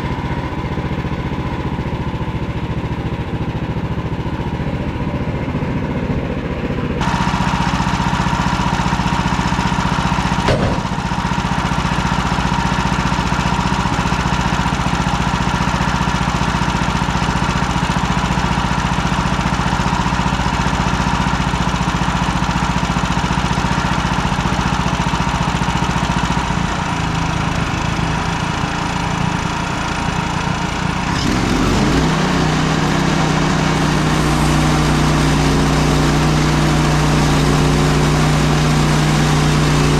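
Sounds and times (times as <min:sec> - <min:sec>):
sawmill engine under load: 0:00.0 - 0:39.9.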